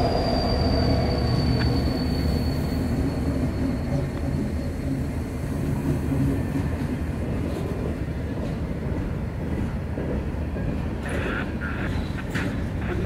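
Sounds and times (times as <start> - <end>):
diesel locomotive engine rumbling: 0.0 - 13.0
train wheels on rails: 0.0 - 13.0.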